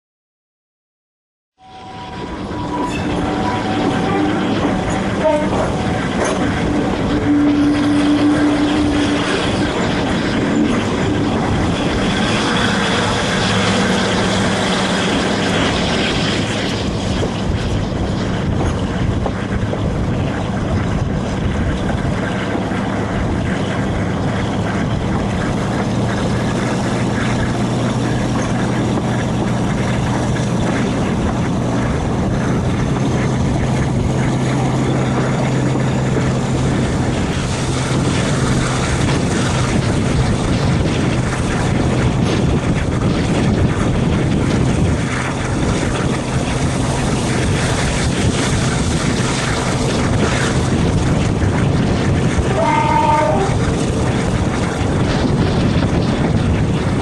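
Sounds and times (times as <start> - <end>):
locomotive engine drone: 1.6 - 57.0
wheels on rails: 1.6 - 57.0
wind rush: 1.6 - 57.0.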